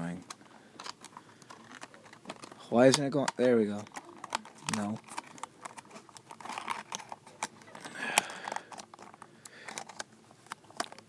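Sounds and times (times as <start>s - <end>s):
packaging box clicks and crinkling: 0.1s - 11.0s.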